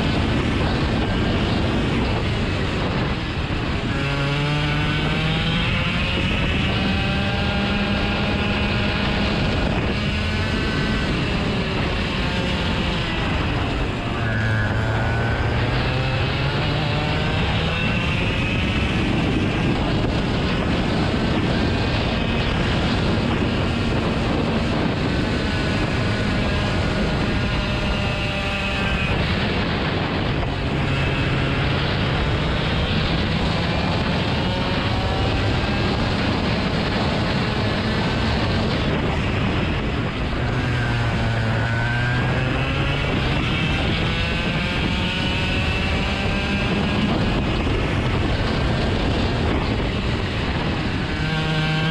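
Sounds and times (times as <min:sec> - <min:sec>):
engine running: 0:00.0 - 0:51.9
wind noise on microphone: 0:00.0 - 0:51.9.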